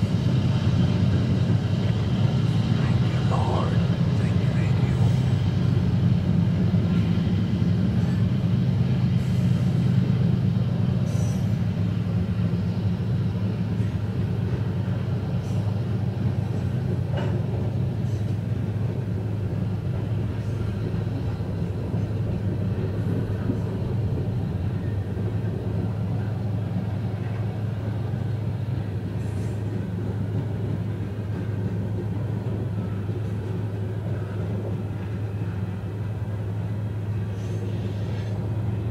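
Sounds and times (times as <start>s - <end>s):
low vehicle rumble: 0.0s - 38.9s.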